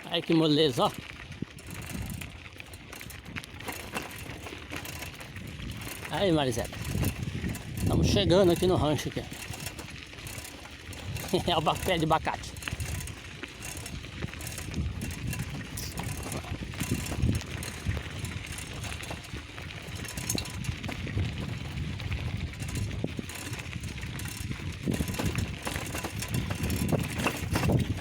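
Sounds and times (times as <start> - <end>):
bicycle rattles and knocks: 0.0 - 28.0
bicycle tyres rolling: 0.0 - 28.0.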